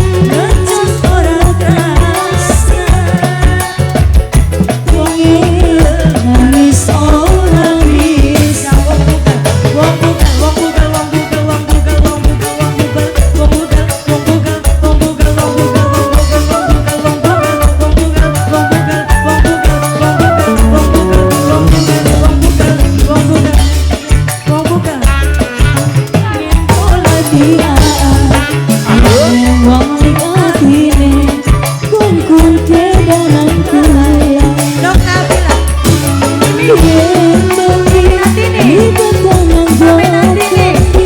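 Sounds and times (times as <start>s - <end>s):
band music with heavy drum beat: 0.0s - 41.0s.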